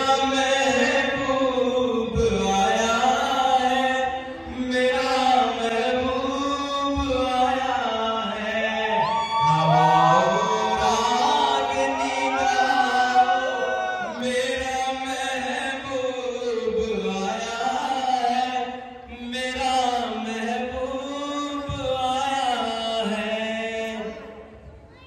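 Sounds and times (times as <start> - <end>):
man singing into a microphone: 0.0 - 24.6
music: 0.0 - 25.0.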